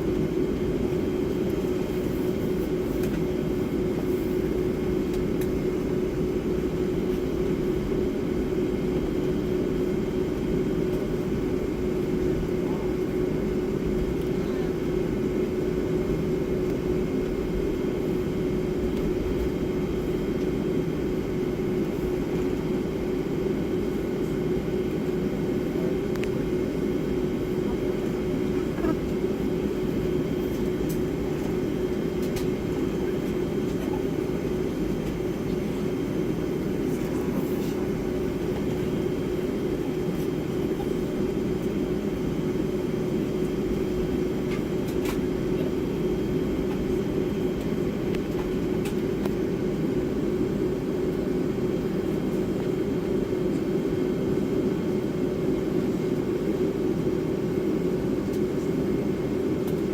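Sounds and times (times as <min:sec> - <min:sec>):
jet engines idling cabin drone: 0:00.0 - 0:59.9.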